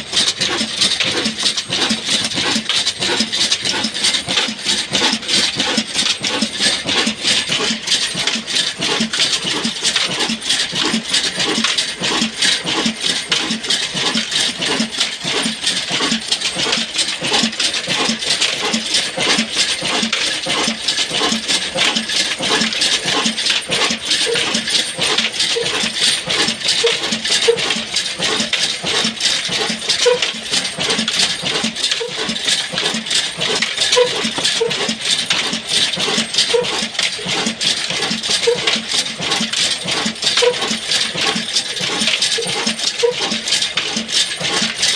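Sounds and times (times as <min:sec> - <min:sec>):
diesel engine knocking: 0:00.0 - 0:44.9.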